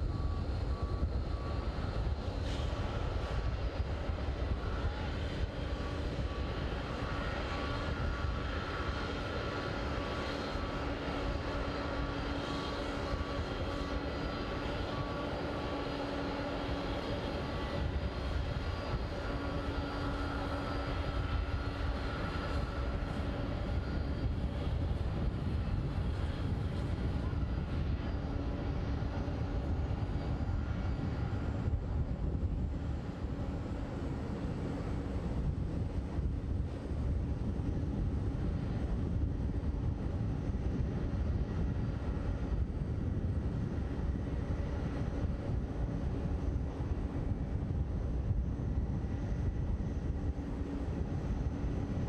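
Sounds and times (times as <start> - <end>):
faint jet engine whine: 0.0 - 52.0
jet engines low rumble: 0.0 - 52.0.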